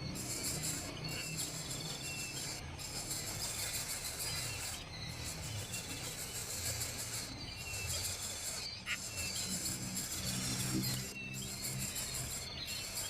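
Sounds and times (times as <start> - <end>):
bird chirps: 0.0 - 13.0
insects buzzing: 0.0 - 13.0.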